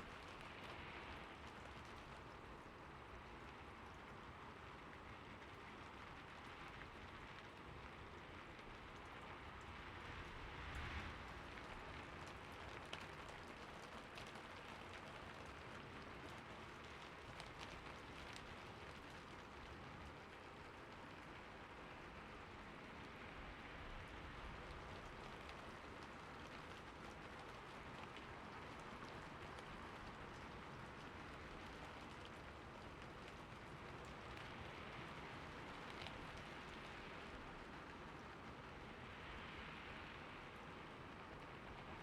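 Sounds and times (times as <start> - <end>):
faint steady rain: 0.0 - 42.0
raindrops tapping: 0.0 - 42.0.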